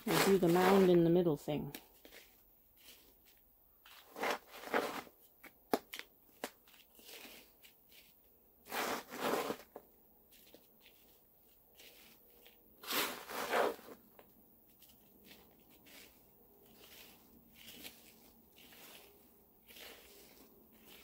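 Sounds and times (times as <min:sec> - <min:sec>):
soil rustling and scraping: 0:00.0 - 0:21.0.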